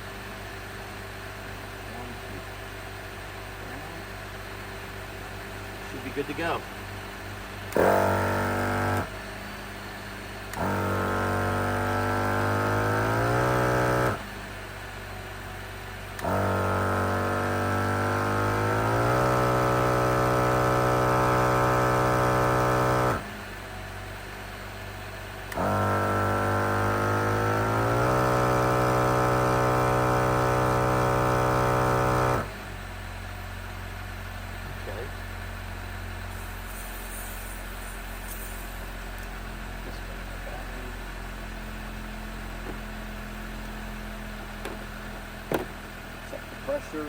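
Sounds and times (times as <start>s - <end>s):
air compressor humming: 0.0s - 47.0s
low engine idle: 0.0s - 47.0s.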